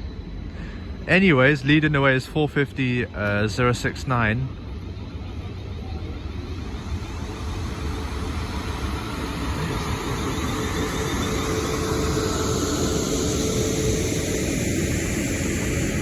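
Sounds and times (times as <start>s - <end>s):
electric train rumble: 0.0s - 16.0s
steady hum: 0.0s - 16.0s.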